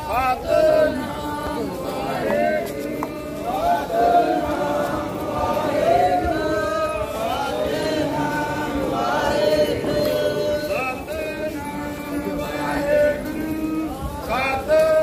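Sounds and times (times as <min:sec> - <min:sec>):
voices chanting a hymn: 0:00.0 - 0:15.0.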